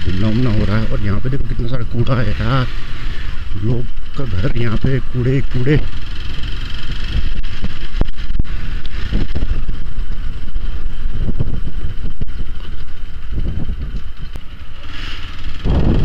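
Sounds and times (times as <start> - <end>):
motorcycle engine running: 0.0 - 16.0
road rumble: 0.0 - 16.0
wind noise: 0.0 - 16.0.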